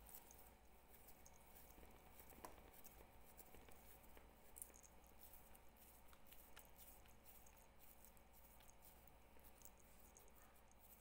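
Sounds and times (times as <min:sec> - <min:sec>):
soft rustling of dough: 0:00.0 - 0:11.0.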